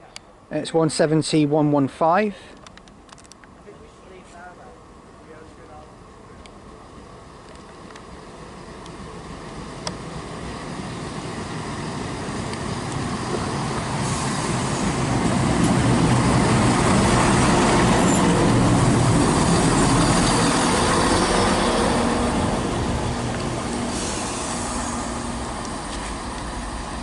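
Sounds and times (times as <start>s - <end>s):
diesel train arriving: 2.4s - 27.0s.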